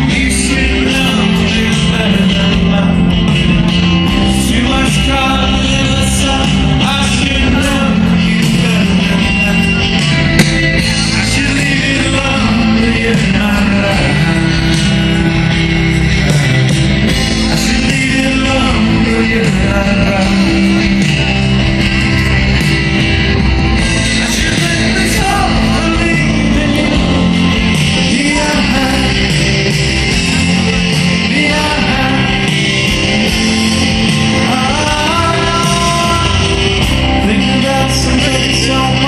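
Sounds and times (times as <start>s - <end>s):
man singing lead: 0.0s - 22.4s, 23.7s - 39.0s
drums: 0.0s - 39.0s
electric guitars: 0.0s - 39.0s.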